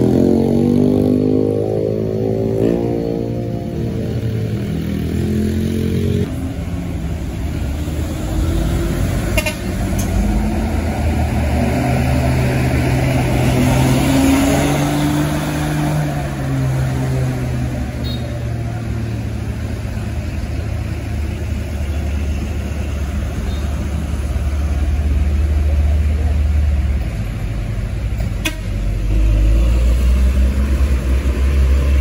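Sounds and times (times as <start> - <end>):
diesel truck engines under load: 6.2 - 32.0.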